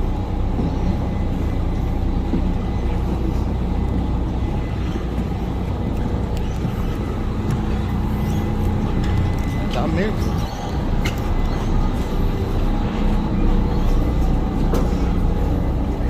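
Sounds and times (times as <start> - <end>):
ferry engine droning: 0.0 - 16.0.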